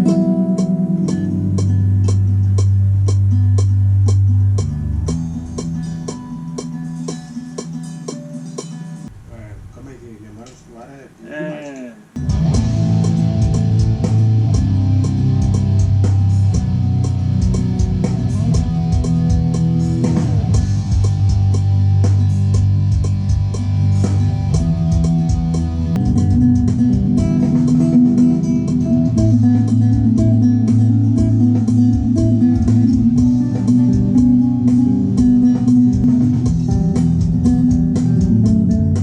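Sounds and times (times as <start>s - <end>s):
guitar music with bass: 0.0s - 9.1s, 12.2s - 39.0s.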